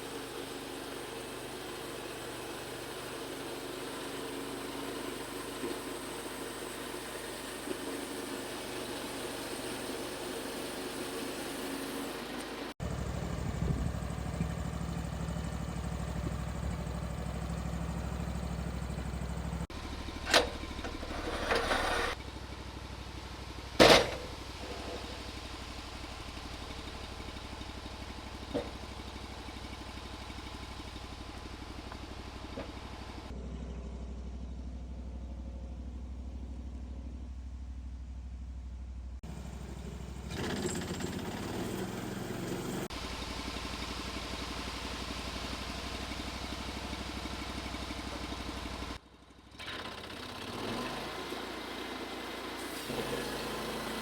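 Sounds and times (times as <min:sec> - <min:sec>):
small engine running: 0:00.0 - 0:36.7, 0:39.2 - 0:54.0.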